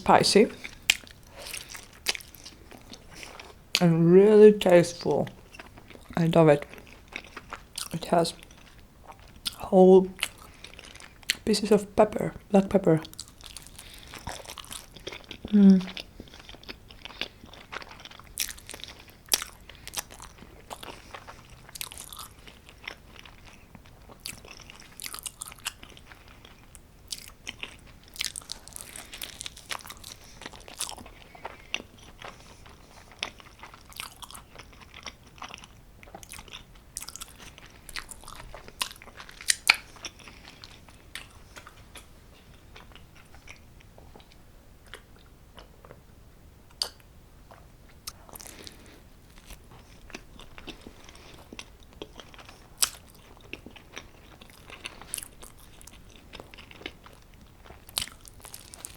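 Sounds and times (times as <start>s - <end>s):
chewing and crunching: 0.1s - 3.9s, 4.6s - 11.5s, 12.6s - 46.0s, 46.7s - 58.9s.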